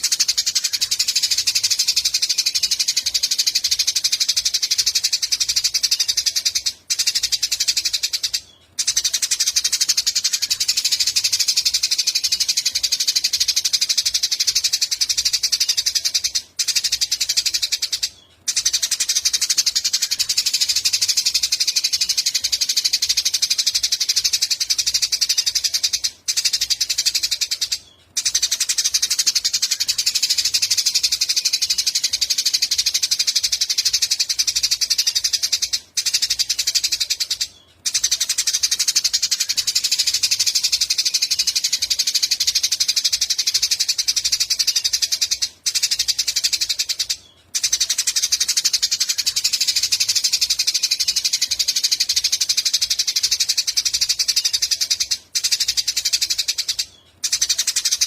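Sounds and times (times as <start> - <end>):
songbird rapid high trill: 0.0 - 58.0.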